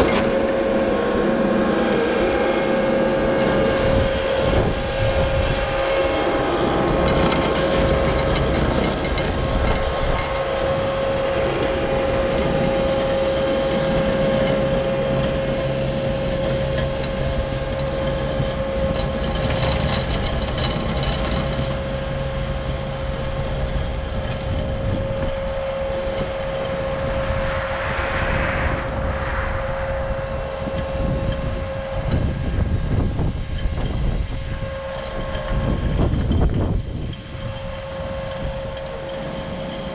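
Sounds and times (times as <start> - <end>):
diesel engine whining under load: 0.0 - 39.9
rake drum grinding dirt: 0.0 - 39.9.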